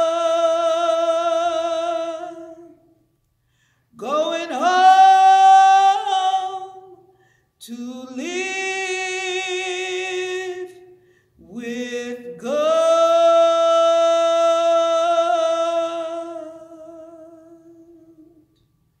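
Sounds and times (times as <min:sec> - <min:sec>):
woman singing a capella: 0:00.0 - 0:03.0, 0:04.0 - 0:18.6.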